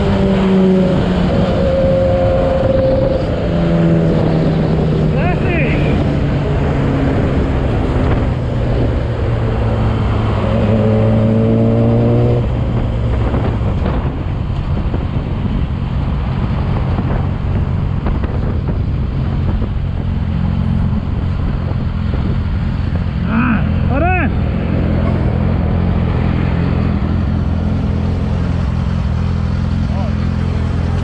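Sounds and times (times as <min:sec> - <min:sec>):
motorcycle engine at speed: 0:00.0 - 0:31.0
road noise: 0:00.0 - 0:31.0.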